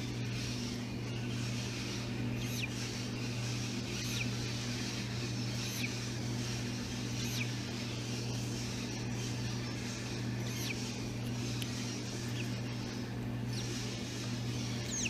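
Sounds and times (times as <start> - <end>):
parrot chick peeping: 0.0 - 15.0
steady low hum: 0.0 - 15.0.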